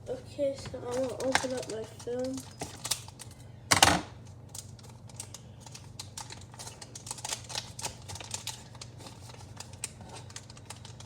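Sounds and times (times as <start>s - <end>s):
wrapper crinkling and clicking: 0.6s - 11.0s.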